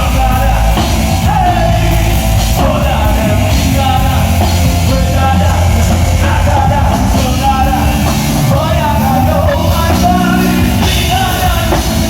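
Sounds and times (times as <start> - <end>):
heavy bass: 0.0 - 12.0
live gospel band playing: 0.0 - 12.0.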